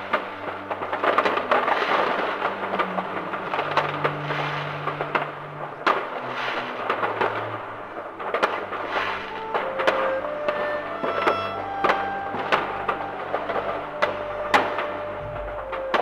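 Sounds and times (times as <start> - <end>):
crackling rumble of distant fireworks: 0.0 - 16.0.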